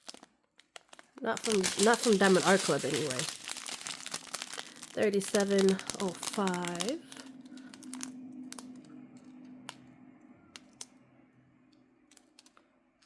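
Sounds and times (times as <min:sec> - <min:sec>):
plastic bags clicking and handling: 0:00.0 - 0:10.9, 0:11.7 - 0:12.7
faint low hum: 0:01.1 - 0:13.0.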